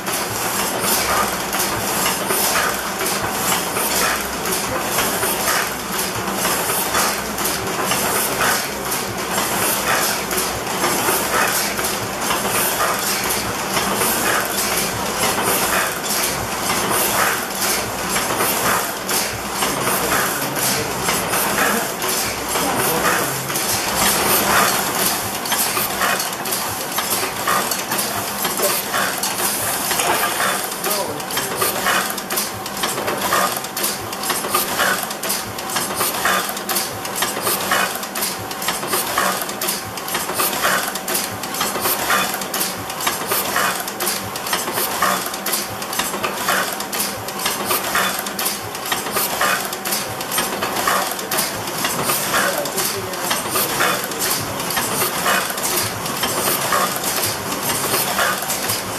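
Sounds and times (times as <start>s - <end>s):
printing presses clattering: 0.0s - 58.9s.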